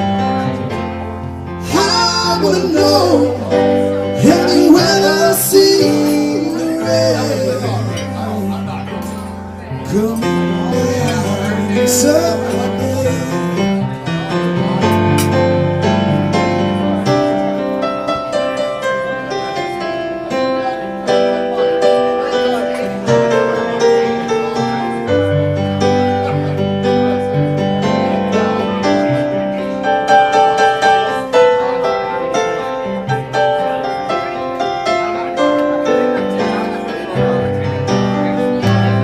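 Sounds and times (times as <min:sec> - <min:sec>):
guitar playing: 0:00.0 - 0:39.0
keyboard playing chords: 0:00.0 - 0:39.0.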